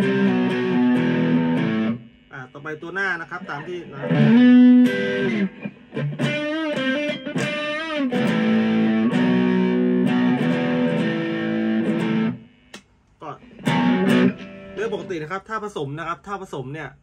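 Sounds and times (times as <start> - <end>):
electric guitar through amp: 0.0 - 15.3.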